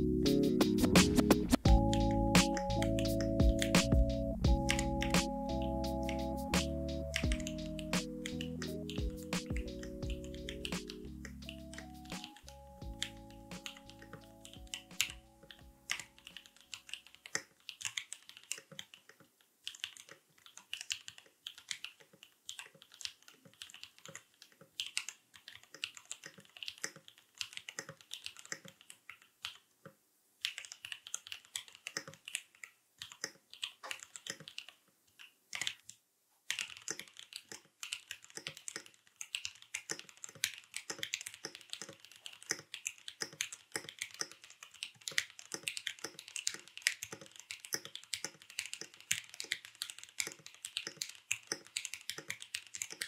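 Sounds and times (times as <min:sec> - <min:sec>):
mechanical keyboard typing: 0:00.0 - 0:29.7, 0:30.4 - 0:53.0.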